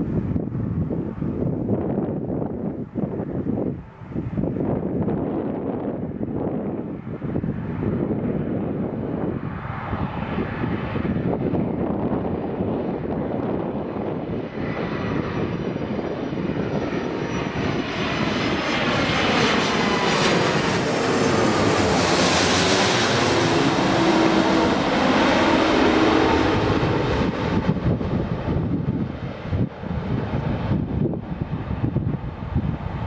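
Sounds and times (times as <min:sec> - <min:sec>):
jet plane passing overhead: 0:00.0 - 0:33.0.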